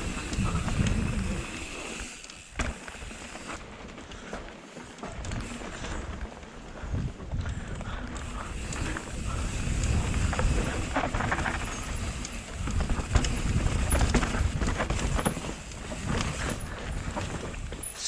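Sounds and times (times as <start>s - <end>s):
wind rumble on microphone: 0.0s - 2.0s, 5.0s - 17.9s
bike chain and frame rattling: 0.0s - 18.0s
bike tyres rumbling on dirt: 0.0s - 18.0s.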